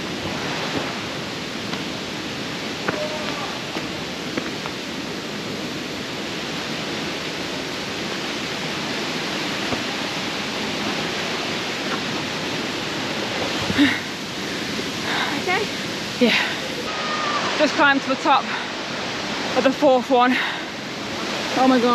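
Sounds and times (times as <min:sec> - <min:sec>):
waterfall roaring: 0:00.0 - 0:21.9.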